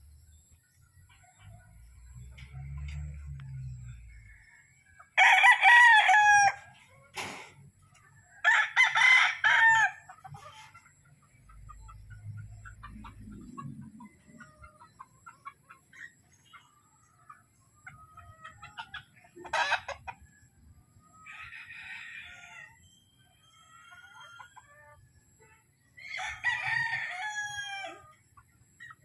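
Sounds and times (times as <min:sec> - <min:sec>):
roosters clucking and crowing: 0:00.0 - 0:29.0.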